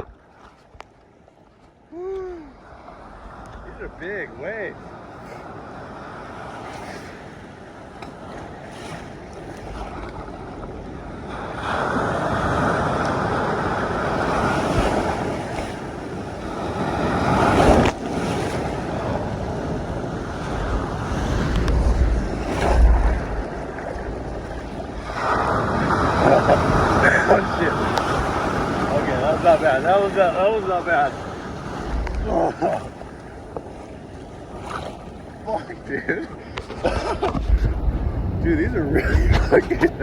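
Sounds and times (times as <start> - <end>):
ocean waves breaking: 0.0 - 40.0
wind buffeting microphone: 4.8 - 35.4, 36.3 - 40.0.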